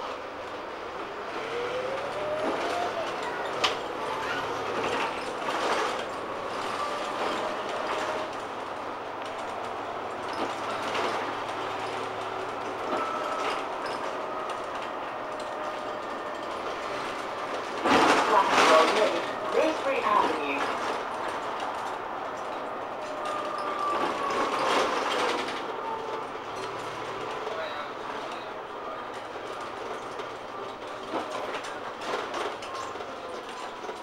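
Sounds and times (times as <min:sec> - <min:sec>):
bus engine running: 0:00.0 - 0:34.0.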